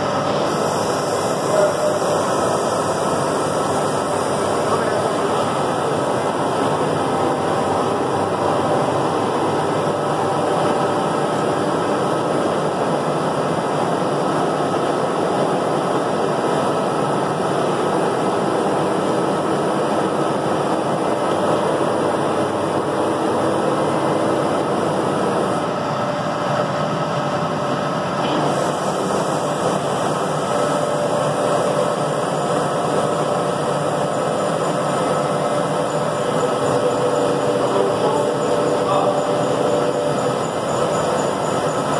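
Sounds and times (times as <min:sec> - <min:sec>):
milling machine running: 0:00.0 - 0:41.9.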